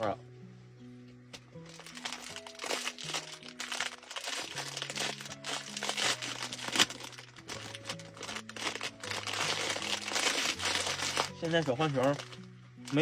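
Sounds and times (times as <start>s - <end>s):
background music with held notes: 0.0s - 13.0s
plastic wrapper crinkling: 1.6s - 13.0s.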